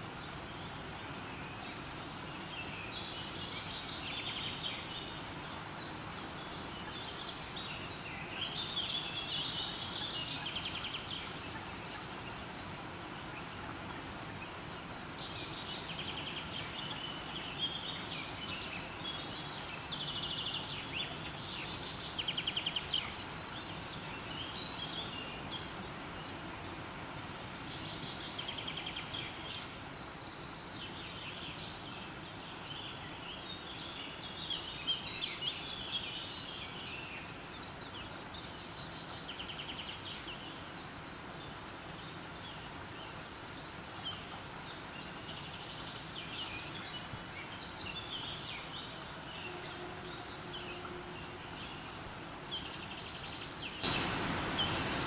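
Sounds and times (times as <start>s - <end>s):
river flowing over stones: 0.0s - 55.0s.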